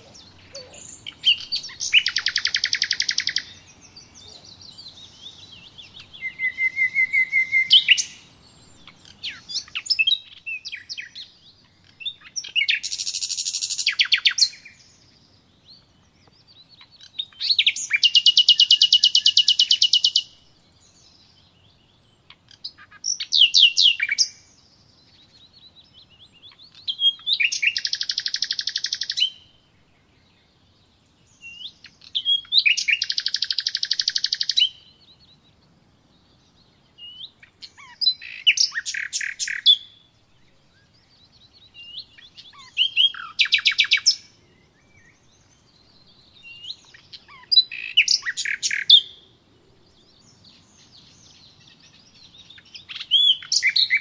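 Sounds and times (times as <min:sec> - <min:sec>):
songbird singing trills: 0:00.0 - 0:54.0.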